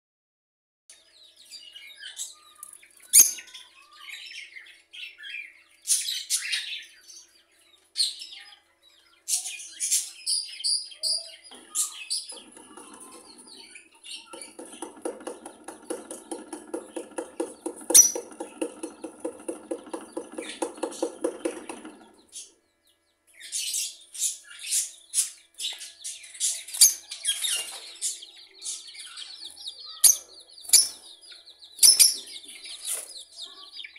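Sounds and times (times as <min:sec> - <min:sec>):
birds chirping: 0:00.9 - 0:33.9.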